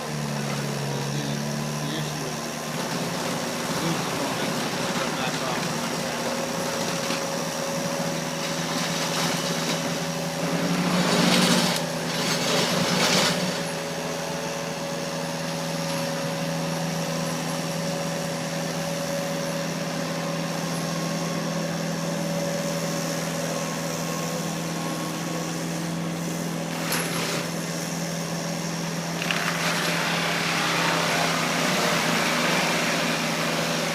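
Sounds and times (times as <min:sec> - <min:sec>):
forestry mulcher running: 0:00.0 - 0:33.9.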